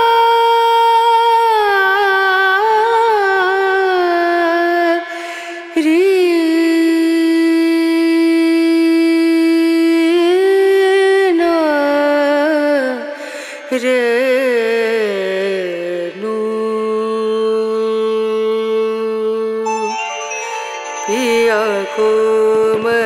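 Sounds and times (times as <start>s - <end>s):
person chanting: 0.0s - 23.0s.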